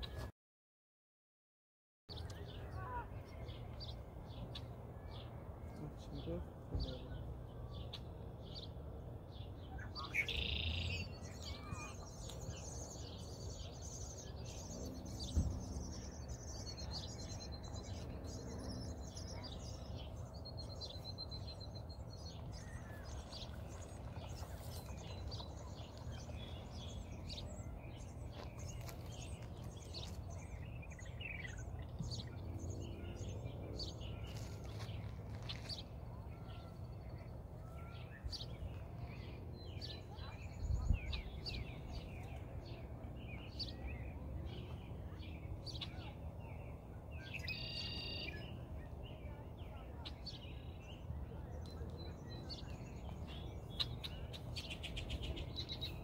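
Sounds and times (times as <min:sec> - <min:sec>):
small birds chirping and twittering: 0:02.1 - 0:56.0.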